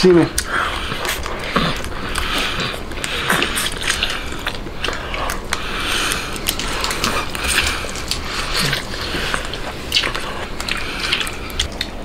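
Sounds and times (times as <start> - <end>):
sucking at meat: 0.1 - 12.0
crab shell cracking and crunching: 0.3 - 12.0.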